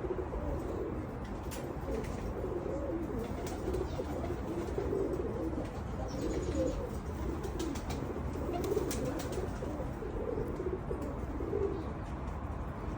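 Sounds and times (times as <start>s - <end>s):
pigeons cooing: 0.0s - 12.1s.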